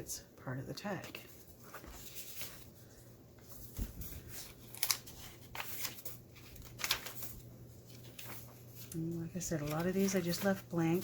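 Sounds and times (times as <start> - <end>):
pages turning with crisp swishes: 1.0 - 11.0
paper rustling: 1.0 - 11.0.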